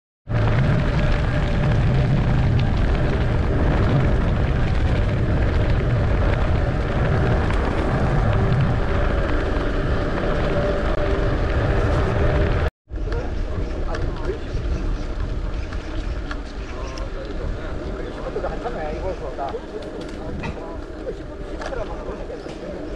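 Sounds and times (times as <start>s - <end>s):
road rumble: 0.3s - 22.9s
wind buffeting microphone: 0.3s - 22.9s.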